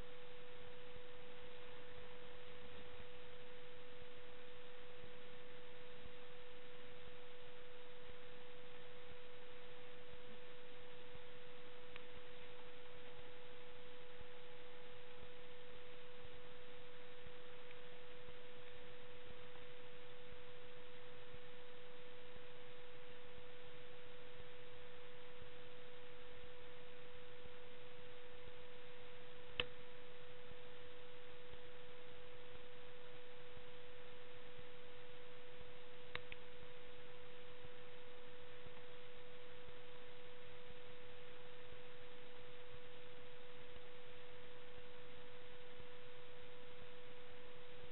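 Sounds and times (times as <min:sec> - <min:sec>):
faint hiss: 0:00.0 - 0:47.9
steady single-pitched hum: 0:00.0 - 0:47.9.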